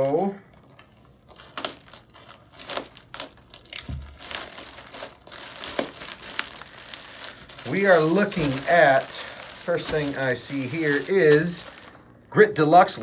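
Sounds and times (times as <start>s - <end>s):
plastic mailer bag crinkling: 1.3s - 12.2s.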